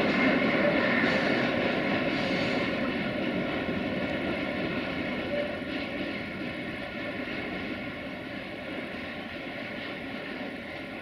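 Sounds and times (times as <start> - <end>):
electric locomotive drone: 0.0 - 11.0
whining motors and blowers: 0.0 - 11.0.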